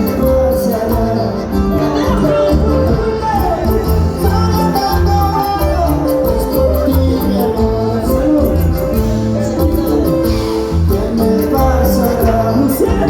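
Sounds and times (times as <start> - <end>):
heavy bass line: 0.0 - 13.0
latin band music: 0.0 - 13.0
plucked guitar: 0.0 - 13.0.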